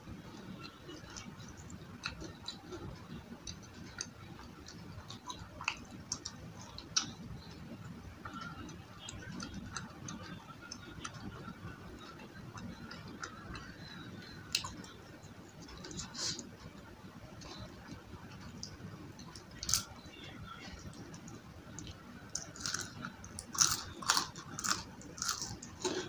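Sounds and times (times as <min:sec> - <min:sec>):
chewing crunchy fried food: 0:00.2 - 0:26.0.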